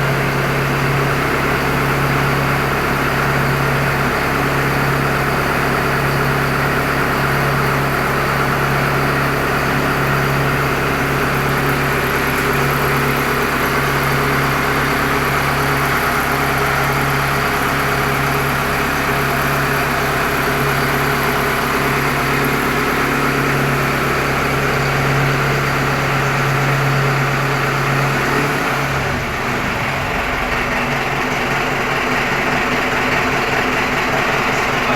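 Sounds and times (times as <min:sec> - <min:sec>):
engine-driven pump running: 0:00.0 - 0:34.9.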